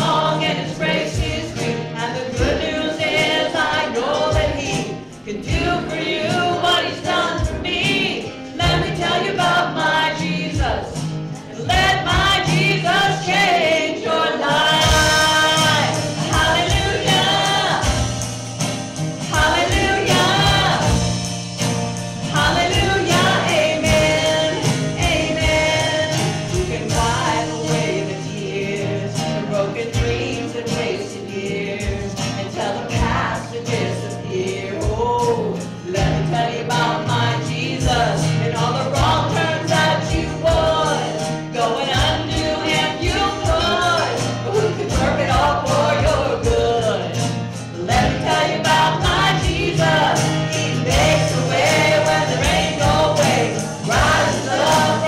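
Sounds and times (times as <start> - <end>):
gospel singers with live band: 0.0 - 55.0.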